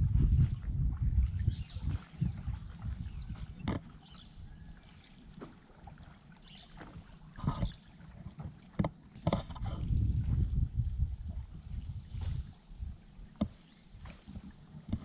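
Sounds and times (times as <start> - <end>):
paddle strokes: 0.0 - 15.0
water lapping at hull: 0.0 - 15.0.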